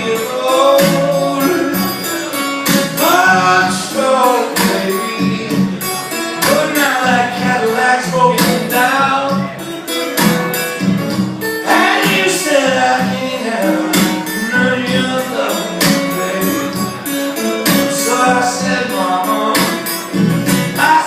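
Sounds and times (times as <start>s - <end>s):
man singing: 0.0s - 9.7s, 11.6s - 21.0s
strummed acoustic guitar: 0.0s - 21.0s.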